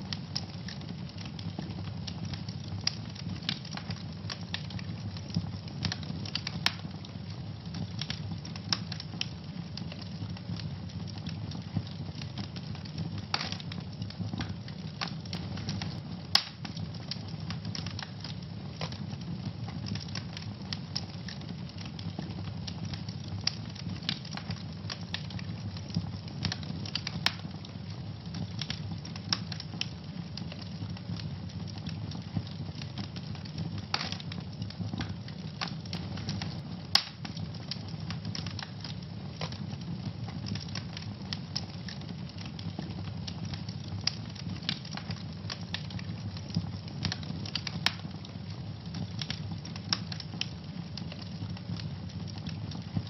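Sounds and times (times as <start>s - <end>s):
fire popping: 0.0s - 53.0s
wood fire crackling: 0.0s - 53.0s.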